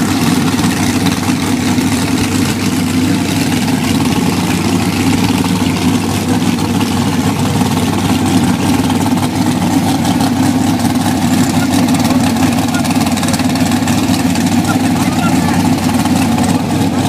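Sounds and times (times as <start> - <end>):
dragster engine idling: 0.0 - 17.0.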